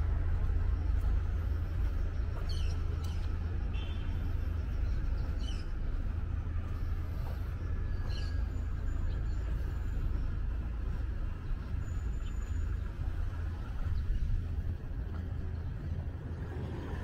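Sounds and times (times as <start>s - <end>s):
car traffic rumble: 0.0s - 17.0s.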